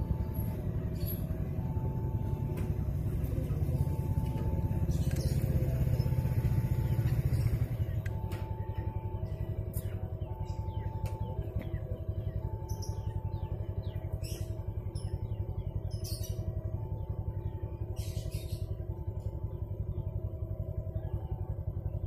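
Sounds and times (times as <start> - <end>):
level crossing two-note alarm: 0.0 - 21.4.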